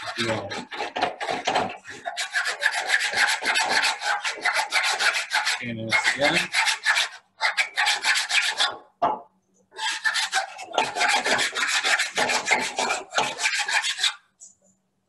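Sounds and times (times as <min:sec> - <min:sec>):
hand file rasping: 0:00.0 - 0:08.8, 0:09.8 - 0:14.2.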